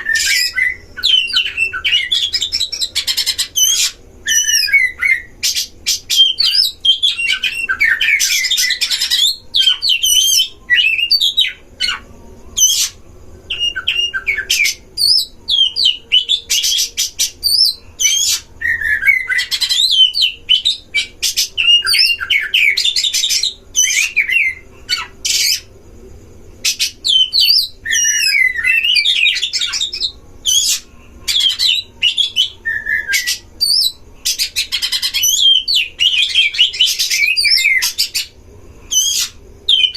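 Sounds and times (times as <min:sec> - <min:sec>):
birds singing whistled phrases: 0:00.0 - 0:25.7, 0:26.6 - 0:39.9.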